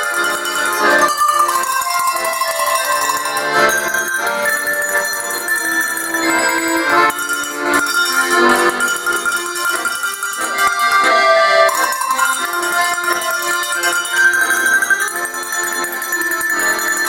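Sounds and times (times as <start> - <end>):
accordion chords: 0.0 - 17.0
tuned cow bells tune: 0.0 - 17.0.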